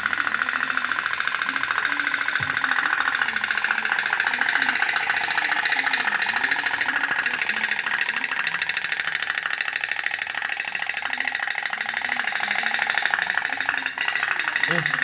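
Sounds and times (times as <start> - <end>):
toy boat engine popping: 0.0 - 15.0.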